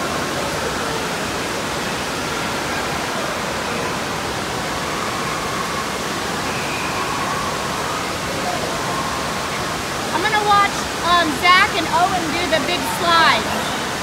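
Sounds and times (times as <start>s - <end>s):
faint distant voices: 0.0s - 14.0s
rushing water: 0.0s - 14.0s.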